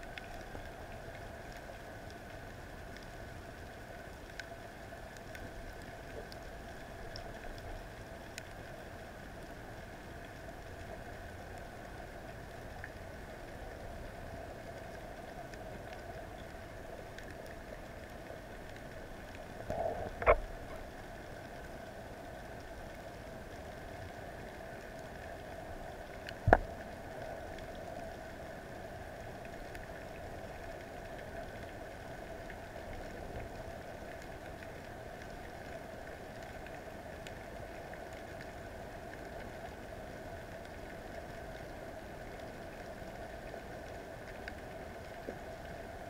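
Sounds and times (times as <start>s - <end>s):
faint clicks: 0.0s - 46.0s
underwater hum: 0.0s - 46.0s.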